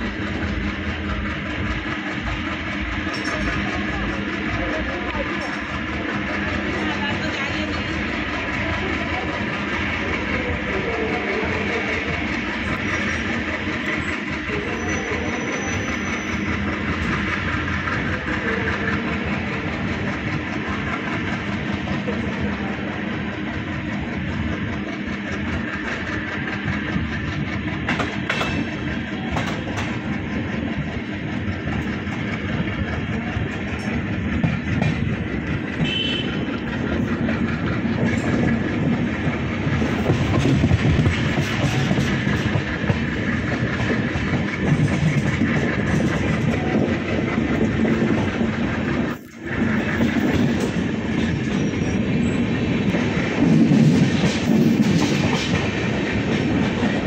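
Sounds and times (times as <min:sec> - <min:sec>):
train coach rumbling and rattling: 0:00.0 - 0:57.0.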